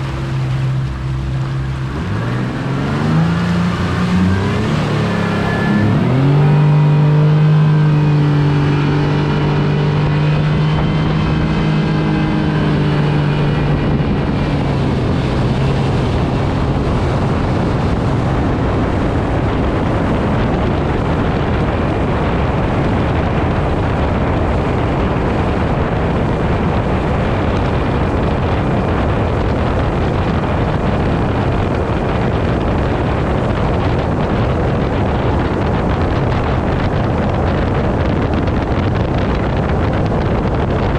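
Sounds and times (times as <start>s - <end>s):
outboard motor running: 0.0s - 40.9s
water noise: 0.0s - 40.9s
wind on microphone: 0.0s - 40.9s.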